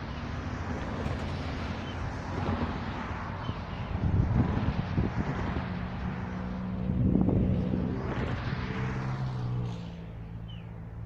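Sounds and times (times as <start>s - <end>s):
vehicle driving past: 0.0s - 11.0s.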